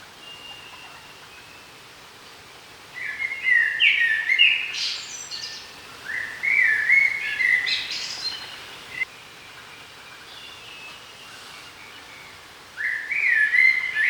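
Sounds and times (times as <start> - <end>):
faint background hiss: 0.0 - 14.0
songbird singing: 0.0 - 14.0.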